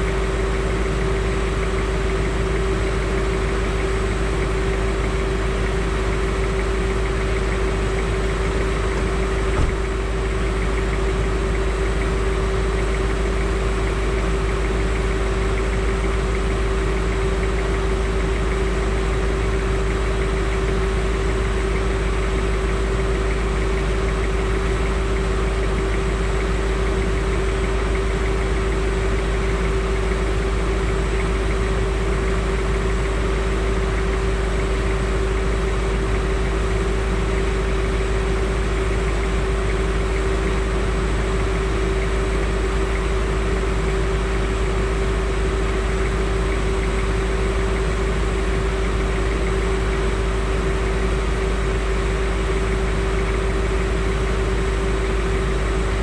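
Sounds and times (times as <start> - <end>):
constant hum: 0.0 - 56.0
engine idling rumble: 0.0 - 56.0.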